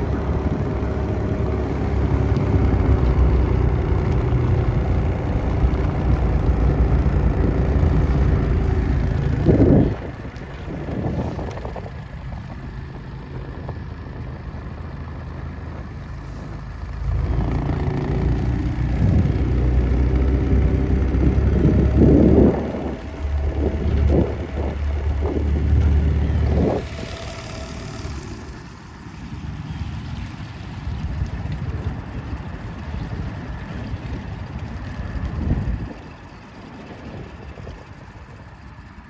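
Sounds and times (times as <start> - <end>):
small outboard motor running: 0.0 - 39.0
wind buffeting microphone: 0.0 - 39.0.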